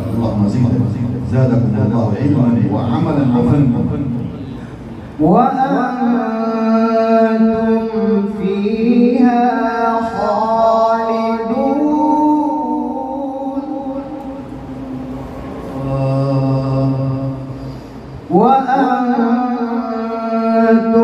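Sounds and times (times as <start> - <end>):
man reciting melodically: 0.0 - 15.1, 15.7 - 21.0.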